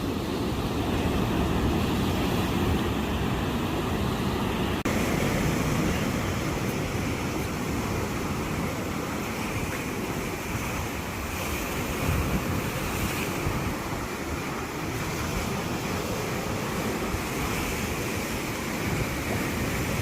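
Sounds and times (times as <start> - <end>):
sea waves breaking on shore: 0.0 - 20.0
wind buffeting microphone: 0.0 - 20.0.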